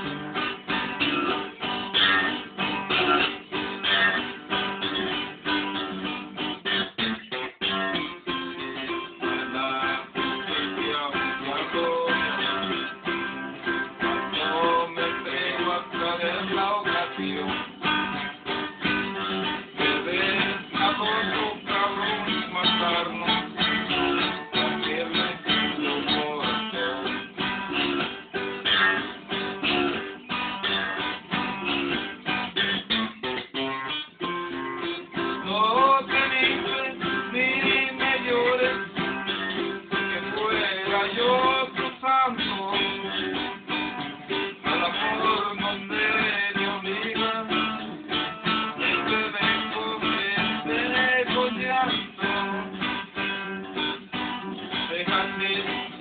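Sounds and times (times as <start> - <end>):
plucked guitar: 0.0 - 56.0.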